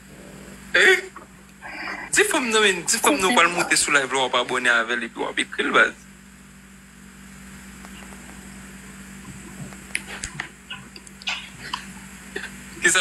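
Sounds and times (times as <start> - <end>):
low room hum and hiss: 0.0 - 13.0.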